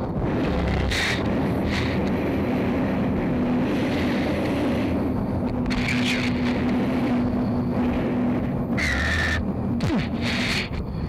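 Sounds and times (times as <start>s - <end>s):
jet engine drone: 0.0s - 11.0s.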